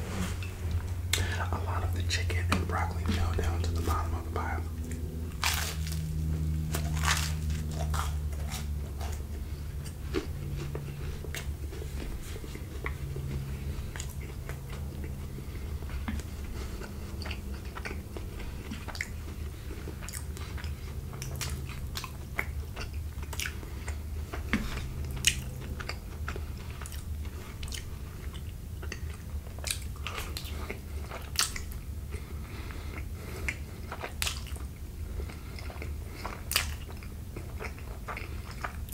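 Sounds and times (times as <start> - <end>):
bread crunching: 0.0 - 38.9
low steady hum: 0.0 - 38.9
close chewing and biting: 0.4 - 38.9.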